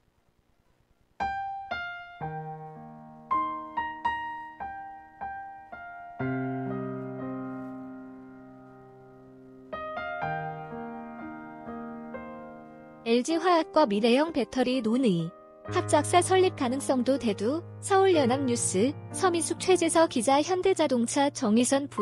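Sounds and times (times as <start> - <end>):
piano music: 1.2 - 22.0.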